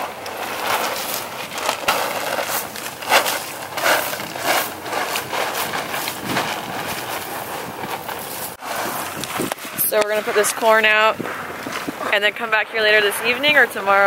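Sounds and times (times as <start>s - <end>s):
corn scattering swishes: 0.0s - 12.3s.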